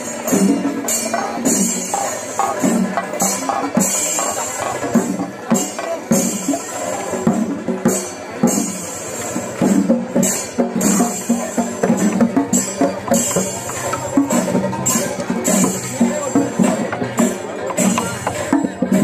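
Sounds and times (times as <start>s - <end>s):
brass hand cymbals clashing: 0.0s - 19.0s
drums beating: 0.0s - 19.0s.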